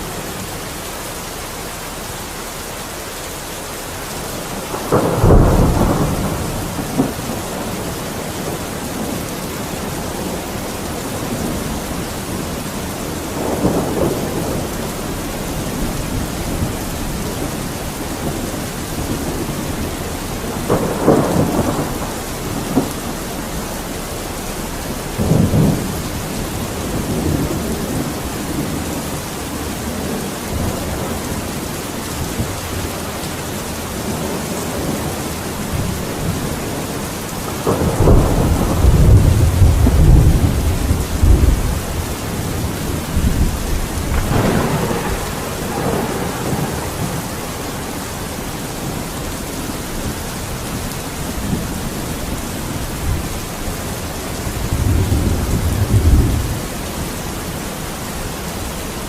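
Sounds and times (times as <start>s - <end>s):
heavy rain: 0.0s - 59.0s
rolling thunder: 4.0s - 59.0s.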